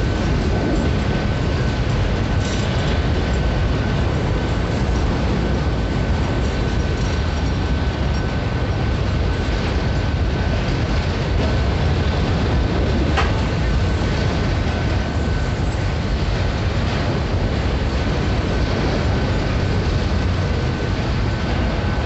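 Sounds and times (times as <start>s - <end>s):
steel wheels rumbling on rails: 0.0s - 22.0s.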